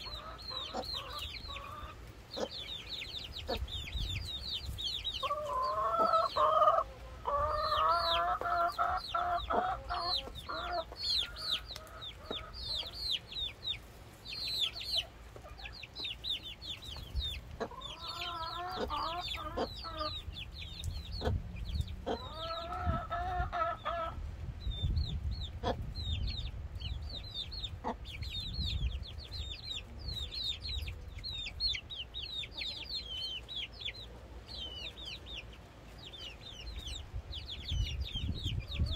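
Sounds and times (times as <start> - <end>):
chickens squawking: 0.0 - 38.9.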